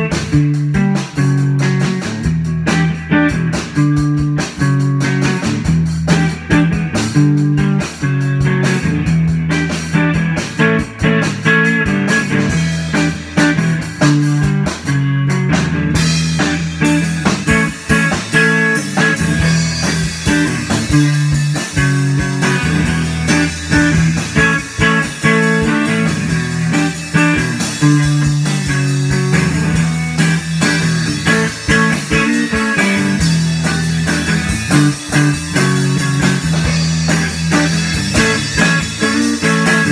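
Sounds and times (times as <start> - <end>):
drum kit with cymbals: 0.0 - 39.9
low guitar riffing: 0.0 - 39.9.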